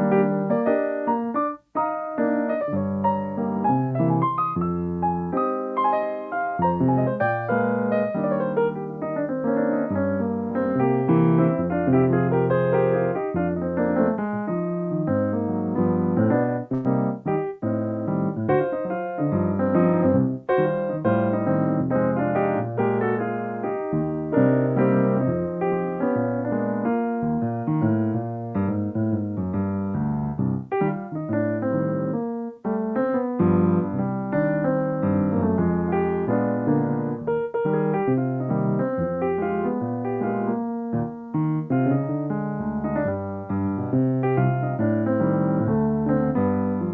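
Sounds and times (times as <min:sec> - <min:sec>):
solo piano: 0:00.0 - 0:46.9.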